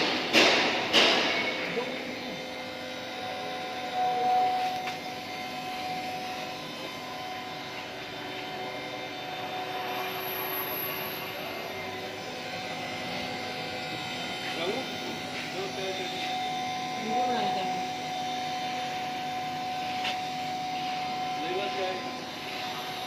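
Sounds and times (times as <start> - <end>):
drilling machine motors whining: 0.0 - 23.0.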